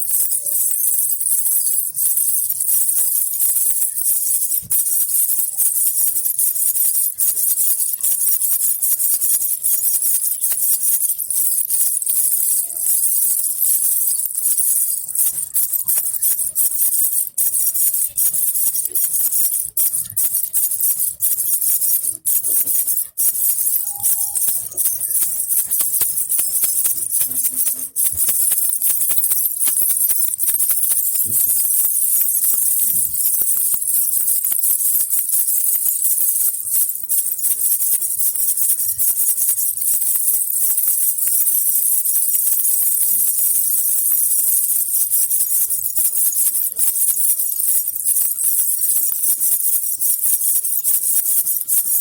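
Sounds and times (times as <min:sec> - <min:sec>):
baby rattle with bells shaken: 0:00.0 - 0:52.0.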